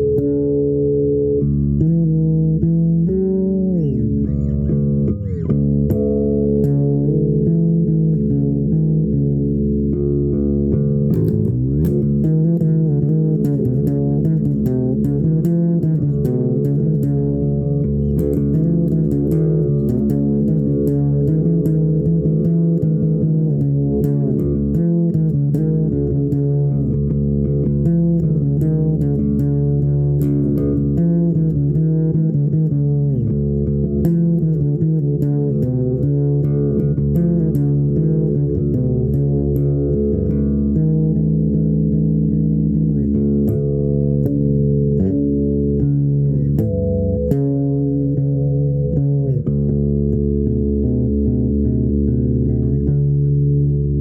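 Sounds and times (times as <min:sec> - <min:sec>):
plucked guitar and bass music: 0:00.0 - 0:54.0.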